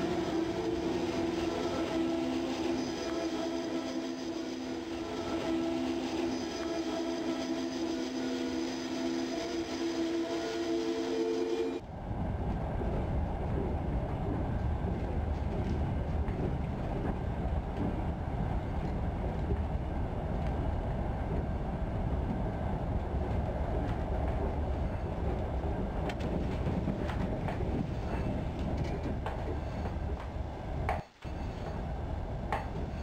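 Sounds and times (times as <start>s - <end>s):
railway carriage rumble: 0.0s - 33.0s.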